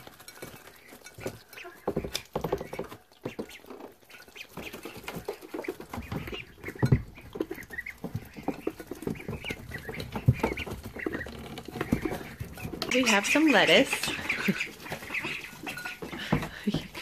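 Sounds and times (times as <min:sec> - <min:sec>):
bills knocking against dish: 0:00.0 - 0:17.0
duckling peeps: 0:00.0 - 0:17.0.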